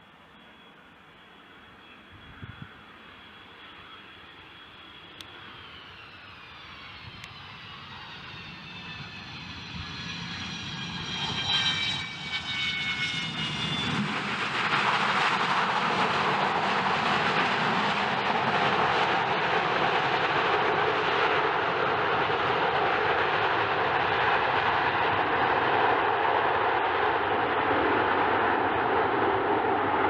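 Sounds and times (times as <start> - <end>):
jet engines whining and roaring: 0.0 - 30.0.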